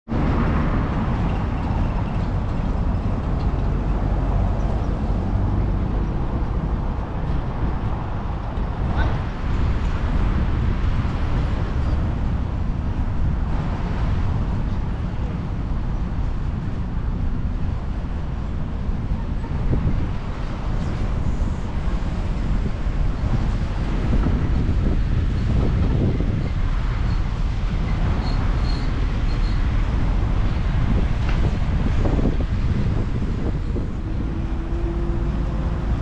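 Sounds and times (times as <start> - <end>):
traffic rumbling past: 0.1 - 36.0.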